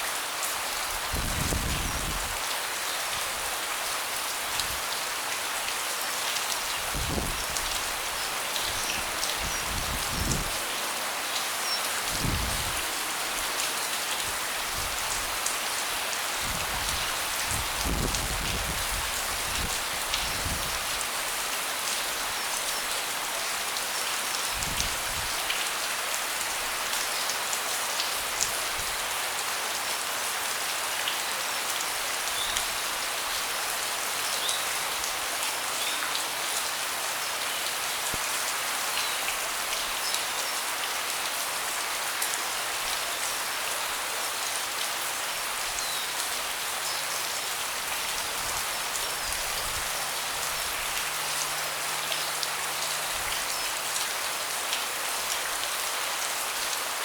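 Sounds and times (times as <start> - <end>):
rain falling on a deck: 0.0 - 57.0.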